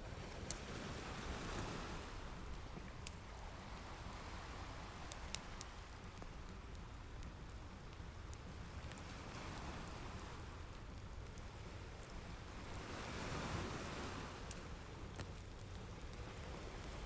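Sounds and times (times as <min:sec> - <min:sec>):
wood fire crackling and popping: 0:00.2 - 0:13.0, 0:13.8 - 0:17.0.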